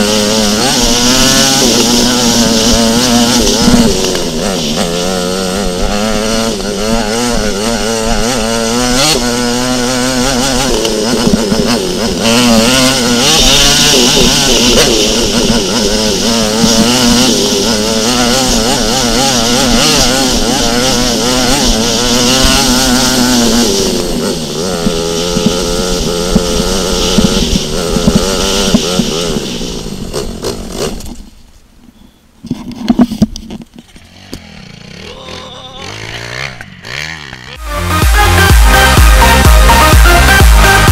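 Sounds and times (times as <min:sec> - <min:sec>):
dirt bike engine revving: 0:00.0 - 0:31.4, 0:33.9 - 0:40.9.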